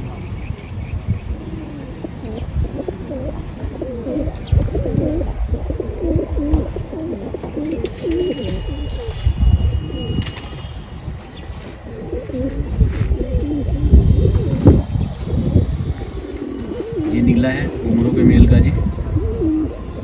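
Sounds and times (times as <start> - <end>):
pigeons cooing: 0.0 - 10.6, 11.8 - 20.0.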